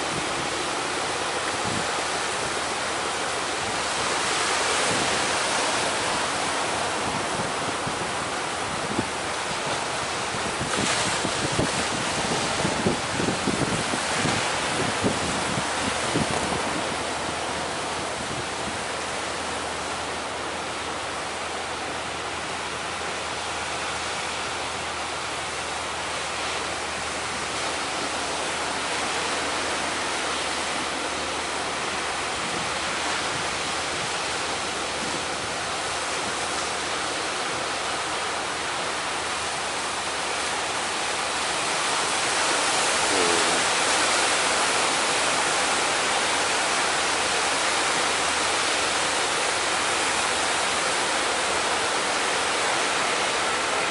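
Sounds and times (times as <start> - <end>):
heavy sea surf roaring: 0.0 - 53.9
strong wind: 0.0 - 53.9.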